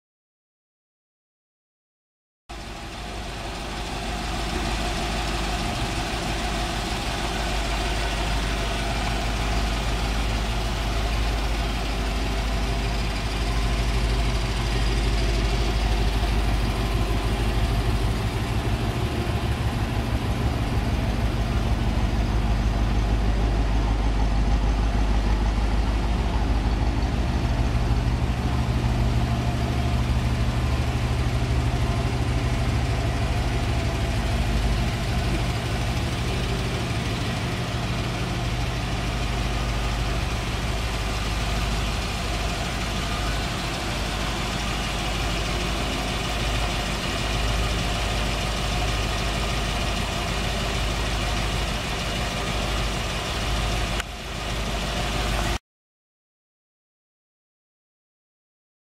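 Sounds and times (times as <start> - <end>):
car engine idling: 2.5 - 55.6.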